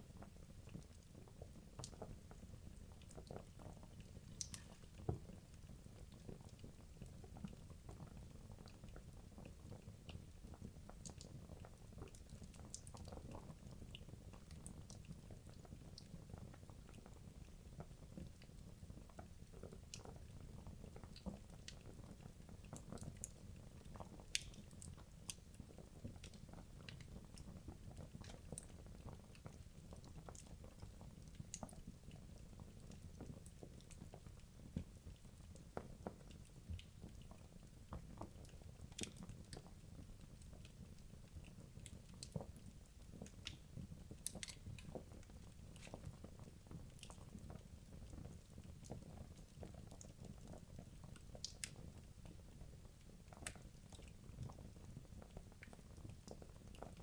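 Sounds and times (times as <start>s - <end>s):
wood logs crackling in fireplace: 0.0s - 57.0s.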